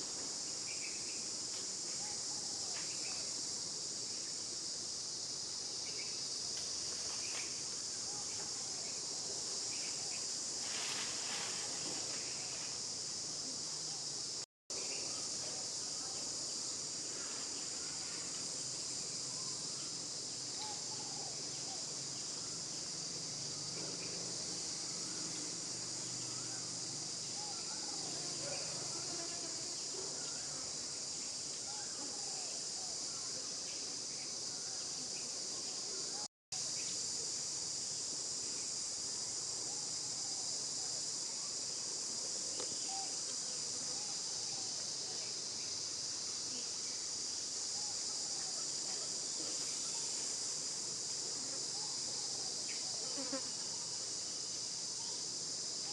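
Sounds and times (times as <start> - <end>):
insects chirping chorus: 0.0 - 55.9.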